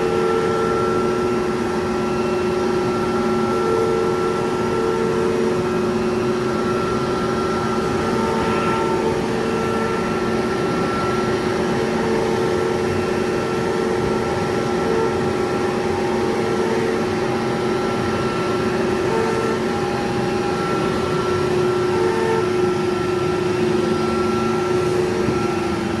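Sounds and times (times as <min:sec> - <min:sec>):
cnc machine motor whine: 0:00.0 - 0:26.0.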